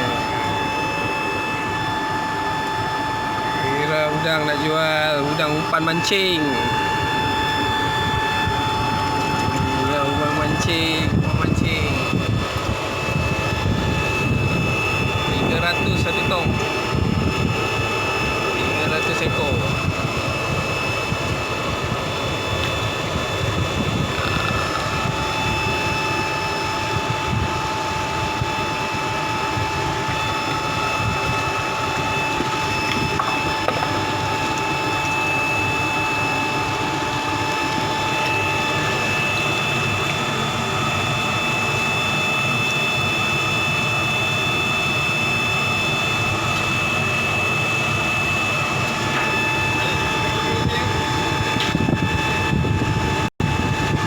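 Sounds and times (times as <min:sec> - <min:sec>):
high whining tones: 0:00.0 - 0:54.0
machine drone: 0:00.0 - 0:54.0.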